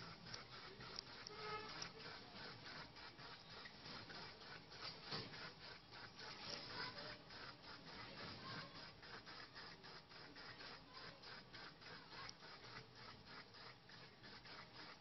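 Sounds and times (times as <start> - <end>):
aquarium filter water bubbling: 0.0 - 15.0.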